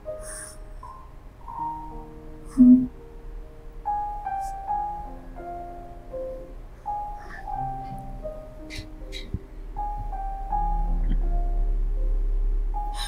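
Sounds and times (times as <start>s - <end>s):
slow soft piano music: 0.0s - 13.0s.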